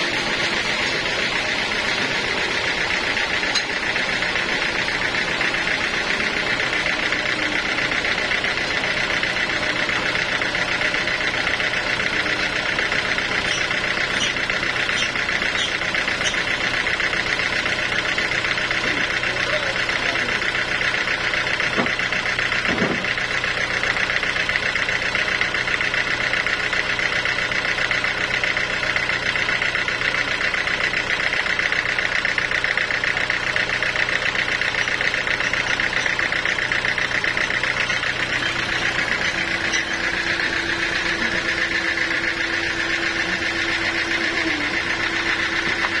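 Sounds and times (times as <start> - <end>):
sawmill engine idling with knocking: 0.0 - 46.0.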